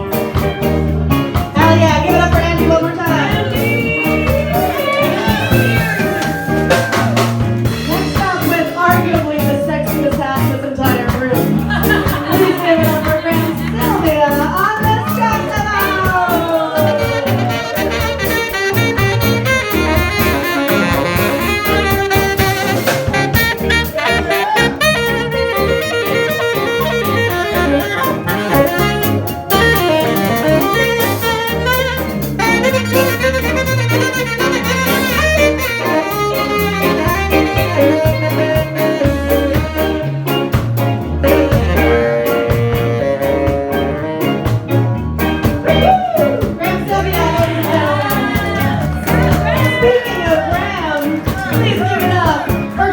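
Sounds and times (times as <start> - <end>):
saxophone: 0.0 - 9.2, 12.2 - 52.9
bass: 0.0 - 52.9
drum kit: 0.0 - 52.9.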